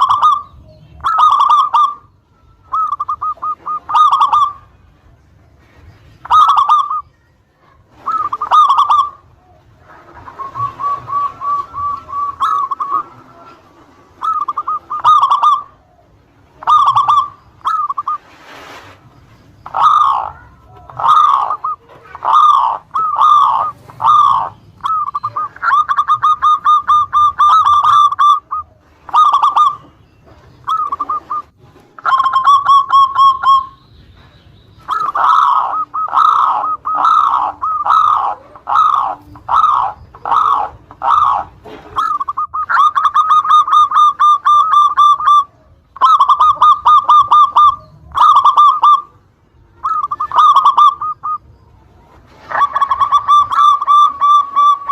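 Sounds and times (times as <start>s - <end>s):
doves cooing in staccato notes: 0.0s - 7.1s, 7.7s - 18.3s, 19.5s - 54.9s.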